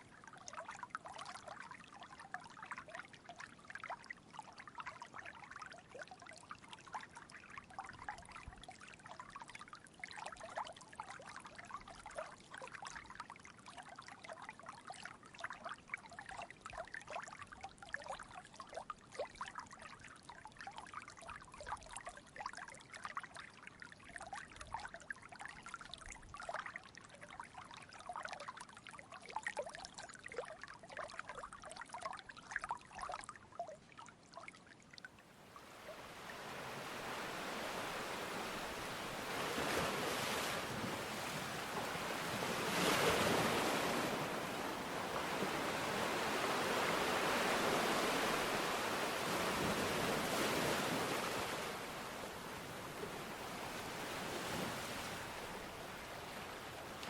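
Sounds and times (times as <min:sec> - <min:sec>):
stream trickling over stones: 0:00.0 - 0:54.2.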